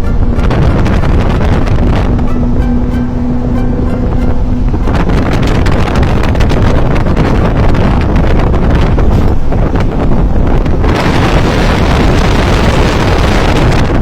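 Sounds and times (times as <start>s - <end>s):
moving vehicle rumble: 0.0s - 14.0s
steady hum: 0.0s - 14.0s
wind buffeting microphone: 0.0s - 14.0s.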